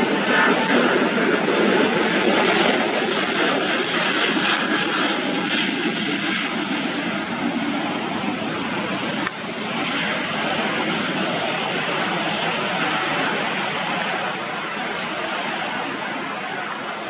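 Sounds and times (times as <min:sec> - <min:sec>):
airliner engines passing: 0:00.0 - 0:17.0.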